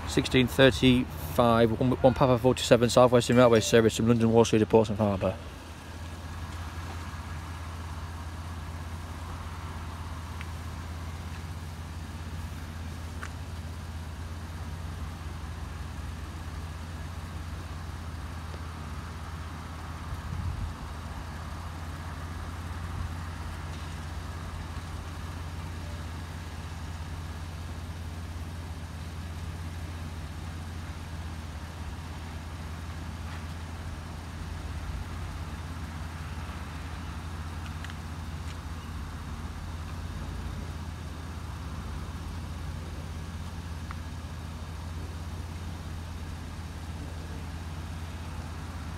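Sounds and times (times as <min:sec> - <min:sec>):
road vehicles idling: 0:00.0 - 0:48.9.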